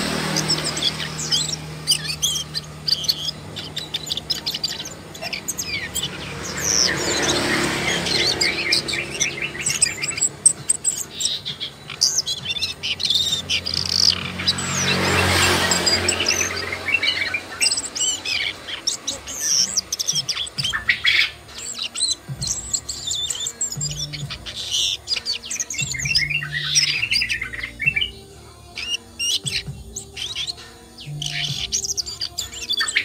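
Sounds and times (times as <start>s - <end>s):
bird chirping and trilling: 0.0s - 33.0s.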